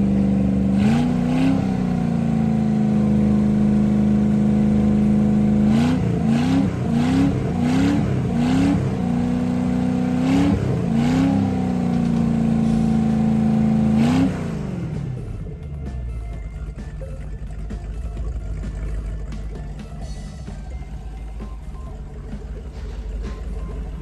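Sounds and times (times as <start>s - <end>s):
boat engine revving: 0.0s - 24.0s
water-spraying wet exhaust: 0.0s - 24.0s.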